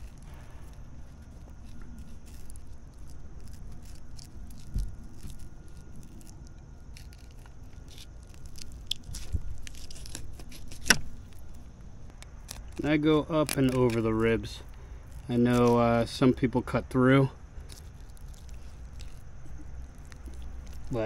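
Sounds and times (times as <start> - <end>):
knife crunching through fish bones: 0.0 - 11.6, 12.2 - 16.0, 17.6 - 21.0.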